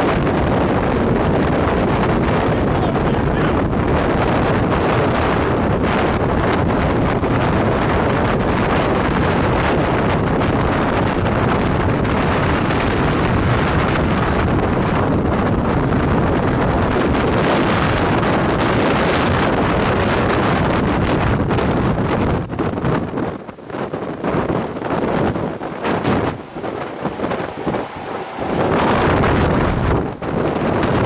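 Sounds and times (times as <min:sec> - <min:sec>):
strong wind buffeting microphone: 0:00.0 - 0:31.0.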